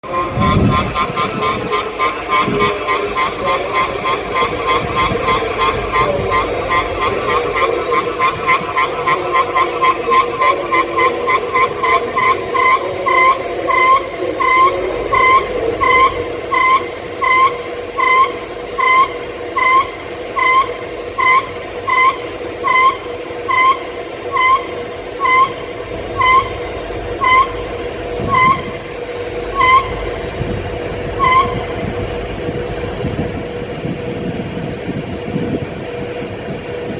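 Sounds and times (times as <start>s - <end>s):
compressor chirping squeak: 0.0s - 33.9s
steady hum: 0.0s - 36.9s.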